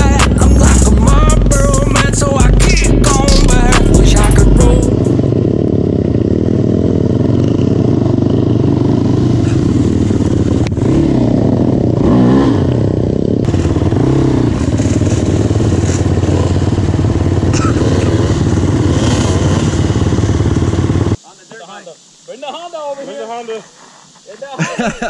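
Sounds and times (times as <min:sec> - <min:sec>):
quad engine revving: 0:00.0 - 0:21.2.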